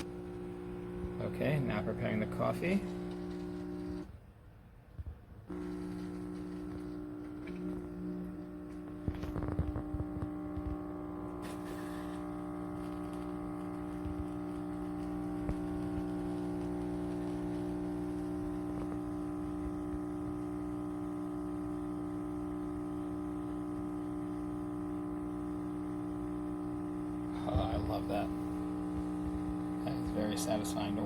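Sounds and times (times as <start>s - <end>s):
espresso machine pump humming: 0.0s - 4.1s, 5.5s - 31.0s.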